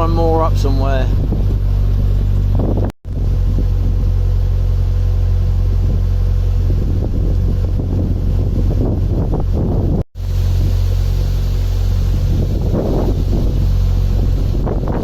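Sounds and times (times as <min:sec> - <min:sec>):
wind noise on microphone: 0:00.0 - 0:04.4, 0:05.6 - 0:15.0
boat diesel engine humming: 0:00.0 - 0:09.6, 0:10.2 - 0:15.0.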